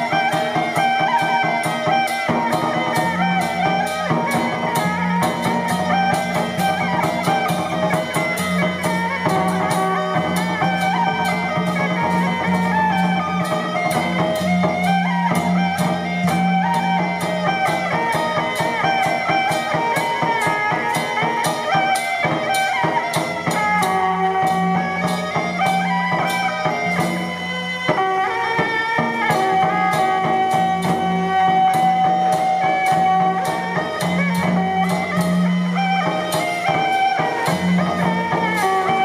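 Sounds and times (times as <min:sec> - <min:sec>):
percussion striking a beat: 0:00.0 - 0:39.0
wind instruments playing melody: 0:00.0 - 0:39.0.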